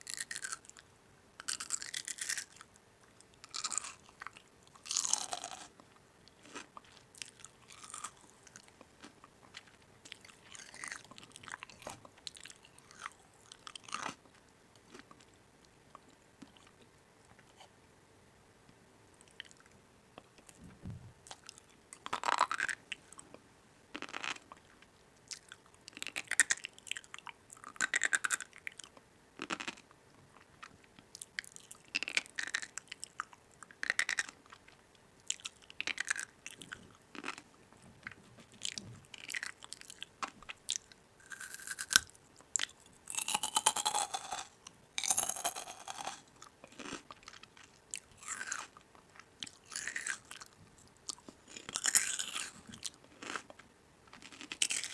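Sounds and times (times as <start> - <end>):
person chewing crunchy food: 0.0 - 0.8, 1.4 - 2.7, 3.4 - 15.4, 21.2 - 54.9.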